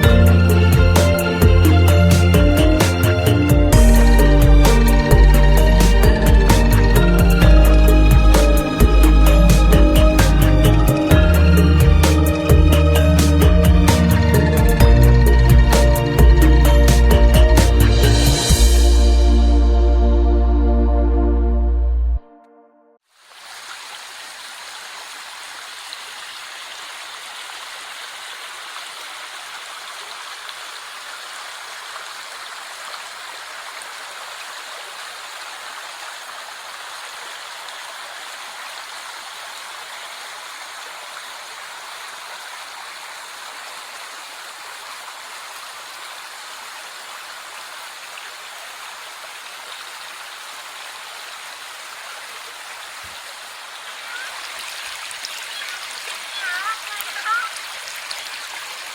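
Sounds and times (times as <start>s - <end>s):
small river flowing: 0.0s - 19.8s, 23.0s - 58.9s.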